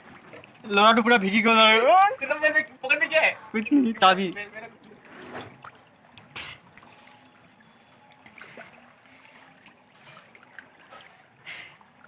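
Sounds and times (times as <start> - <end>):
people wading through water: 0.0 - 12.0.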